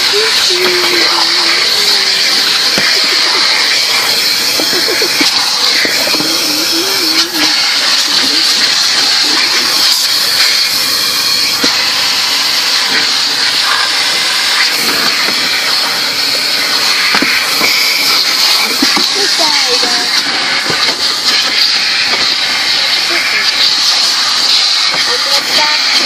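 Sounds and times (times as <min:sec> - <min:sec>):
car wash equipment hissing: 0:00.0 - 0:26.0.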